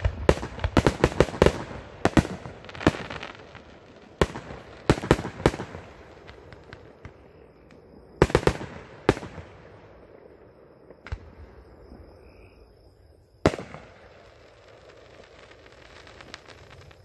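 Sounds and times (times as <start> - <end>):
fireworks crackle: 0.0 - 11.6, 13.4 - 17.0
fireworks bangs: 0.0 - 12.6, 13.4 - 17.0.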